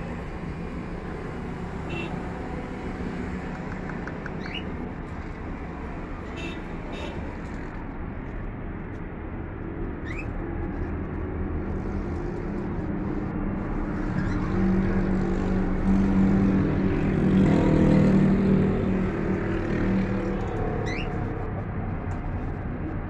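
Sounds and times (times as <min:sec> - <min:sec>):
street traffic: 0:00.0 - 0:23.0
vehicle engine hum: 0:00.0 - 0:23.0.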